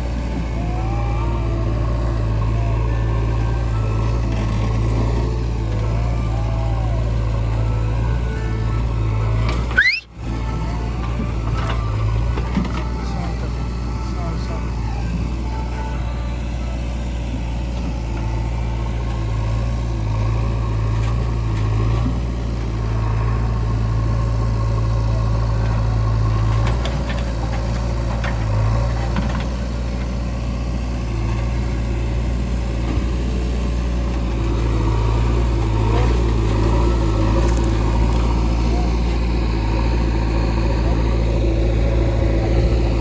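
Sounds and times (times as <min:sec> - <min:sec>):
diesel machinery running: 0:00.0 - 0:43.0.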